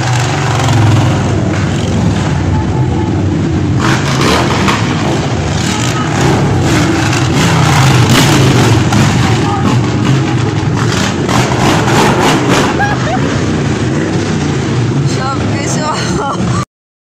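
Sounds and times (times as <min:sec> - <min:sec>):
road noise rumble and hiss: 0:00.0 - 0:16.6
car engines running: 0:00.0 - 0:16.7.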